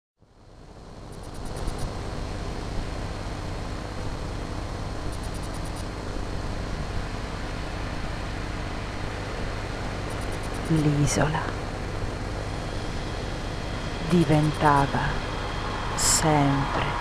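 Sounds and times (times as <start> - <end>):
low rumbling noise: 0.3 - 17.0.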